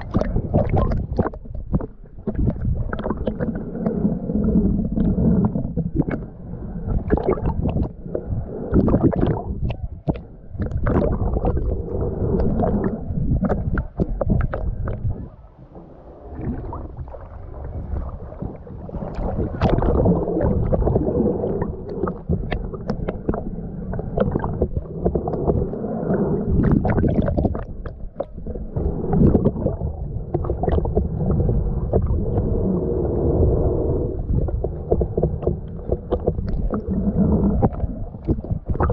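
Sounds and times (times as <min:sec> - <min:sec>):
muffled water sloshing: 0:00.0 - 0:38.9.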